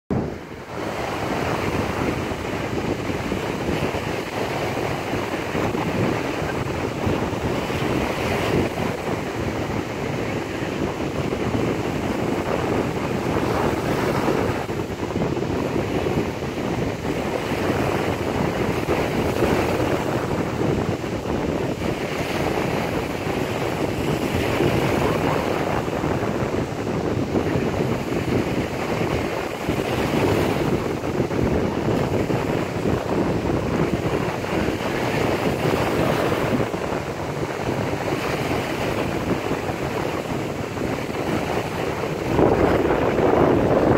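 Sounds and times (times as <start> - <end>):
surf washing onto a beach: 0.1 - 43.9
wind buffeting microphone: 0.1 - 43.9.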